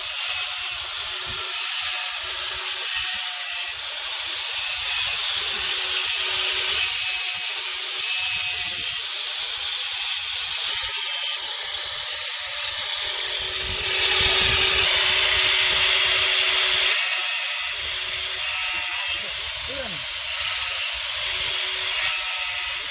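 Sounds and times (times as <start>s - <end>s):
abrasive scraping on saw steel: 0.0s - 22.9s.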